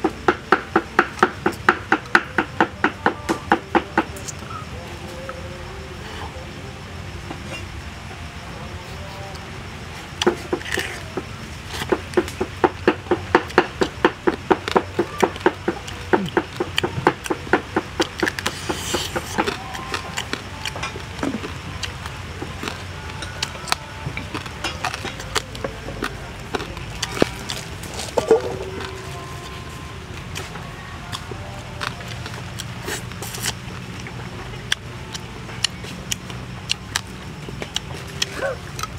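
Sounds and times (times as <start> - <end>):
crunching and chewing food: 7.4 - 38.9.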